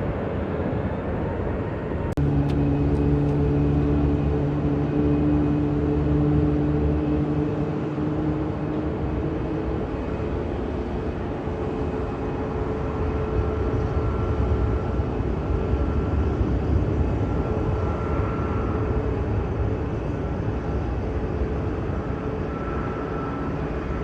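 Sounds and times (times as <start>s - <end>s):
faint engine whine: 0.0s - 24.0s
jet engines rumbling: 0.0s - 24.0s.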